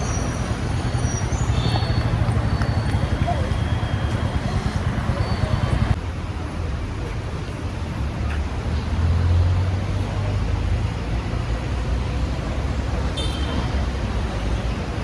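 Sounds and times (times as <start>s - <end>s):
low rumble of passing vehicles: 0.0s - 15.0s.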